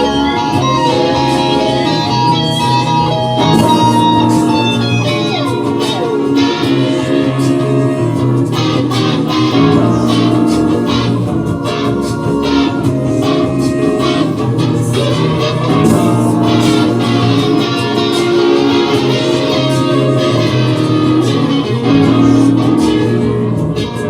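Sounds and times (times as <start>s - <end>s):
bass line: 0.0s - 24.0s
guitar plucked and strummed: 0.0s - 24.0s.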